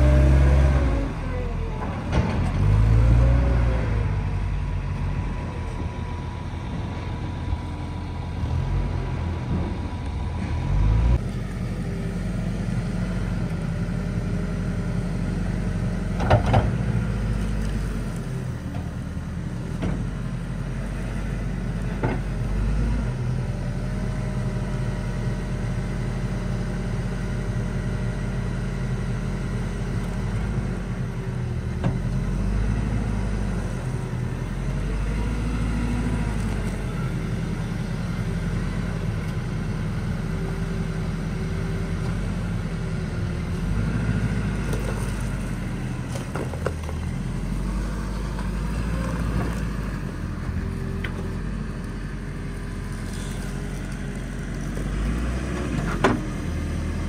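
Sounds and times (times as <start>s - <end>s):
heavy diesel engine running: 0.0s - 57.0s
wheel loader engine working: 0.0s - 57.0s.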